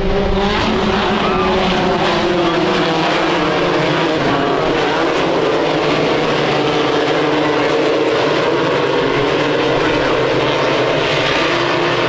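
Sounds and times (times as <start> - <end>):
race buggy engines revving: 0.0 - 12.0.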